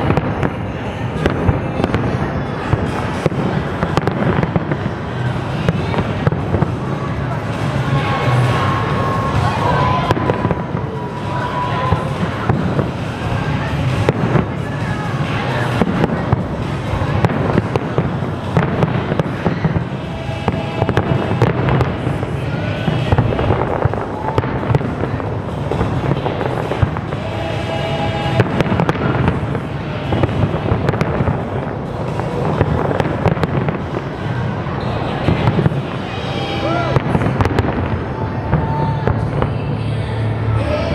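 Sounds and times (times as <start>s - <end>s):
fireworks bangs and crackling: 0.0s - 40.4s.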